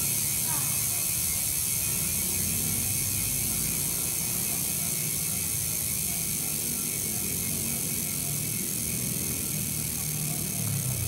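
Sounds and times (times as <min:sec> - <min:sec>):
bike hub freewheeling buzz: 0:00.0 - 0:11.0.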